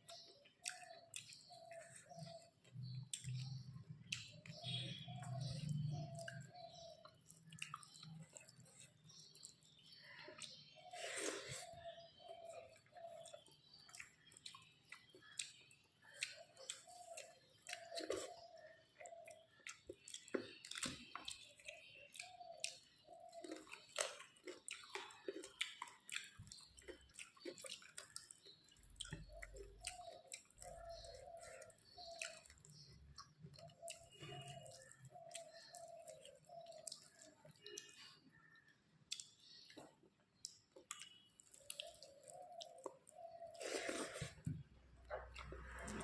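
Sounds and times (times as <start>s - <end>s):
close chewing: 5.3s - 38.1s, 39.0s - 46.0s.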